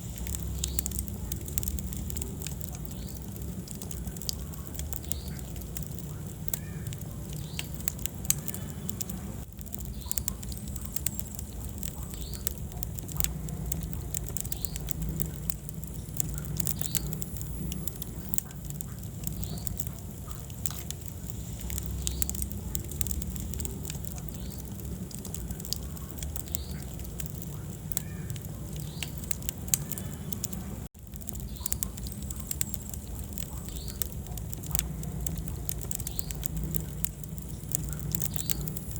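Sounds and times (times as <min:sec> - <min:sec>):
burning logs crackling and popping: 0:00.0 - 0:38.9
fire flames rumbling: 0:00.0 - 0:38.9.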